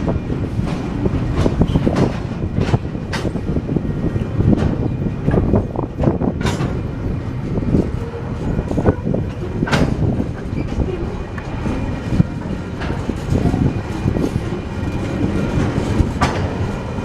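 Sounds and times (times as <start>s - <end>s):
freight train wheels rumbling on rails: 0.0s - 17.0s
wagons clanking: 0.0s - 17.0s.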